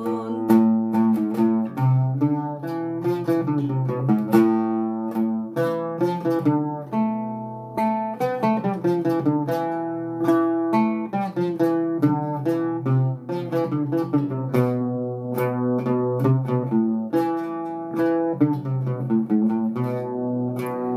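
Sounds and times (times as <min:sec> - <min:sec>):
oud melody: 0:00.0 - 0:20.9.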